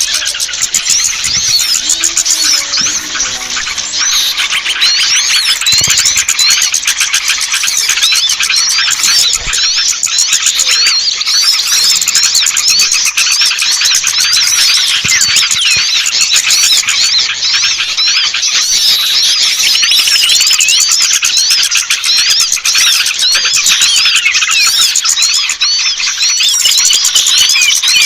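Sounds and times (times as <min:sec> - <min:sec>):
chorus of small birds chirping: 0:00.0 - 0:28.0.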